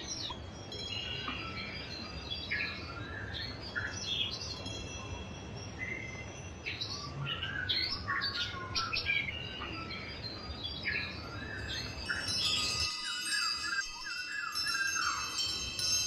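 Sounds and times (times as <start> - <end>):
wind chimes ringing: 0.0 - 8.1, 9.2 - 16.0
songbirds chirping and trilling: 0.0 - 16.0.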